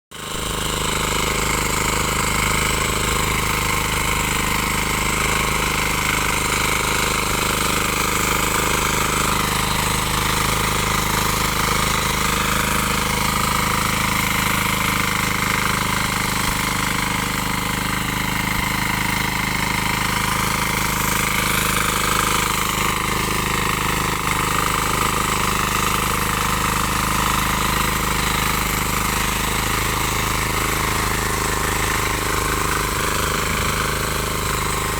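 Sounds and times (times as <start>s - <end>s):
diesel engine running steadily: 0.2s - 34.9s.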